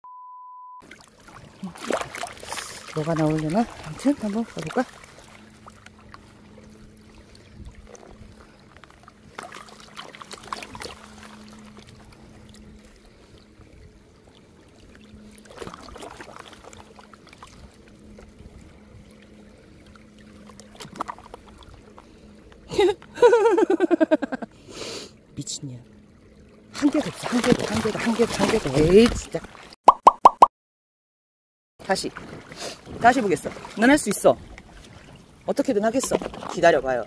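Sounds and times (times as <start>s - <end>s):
water sloshing and pouring: 0.8s - 23.1s, 25.4s - 29.8s, 31.8s - 37.0s.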